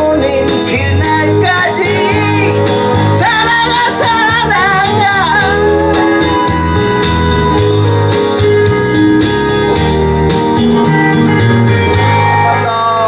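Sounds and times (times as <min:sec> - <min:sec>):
instrumental backing music: 0:00.0 - 0:13.0.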